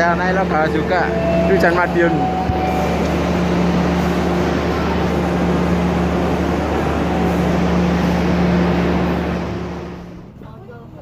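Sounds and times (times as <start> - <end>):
low engine hum: 0.0 - 10.5
train running rumble: 0.0 - 11.0.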